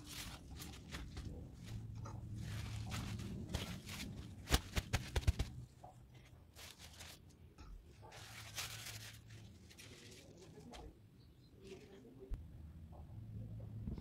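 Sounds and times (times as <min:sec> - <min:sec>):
leafy greens rustling: 0:00.0 - 0:12.3.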